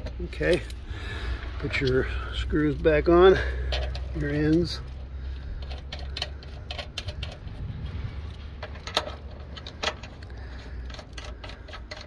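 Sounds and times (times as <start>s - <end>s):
low steady rumble: 0.0s - 12.0s
small metal clicks and ticks: 1.6s - 12.0s.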